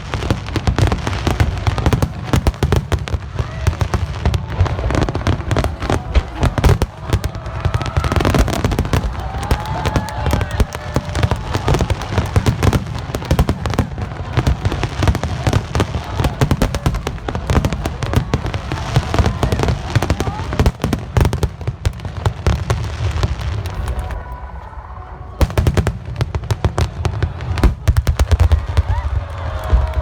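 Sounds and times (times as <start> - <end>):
faint crowd voices: 0.0 - 30.0
fireworks bursting and crackling: 0.0 - 30.0.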